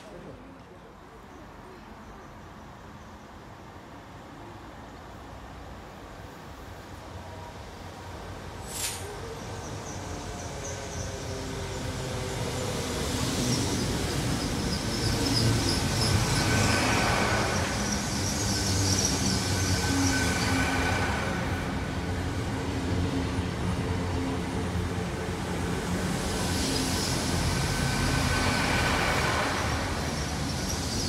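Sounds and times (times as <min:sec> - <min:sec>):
train engine drone: 0:00.0 - 0:31.0.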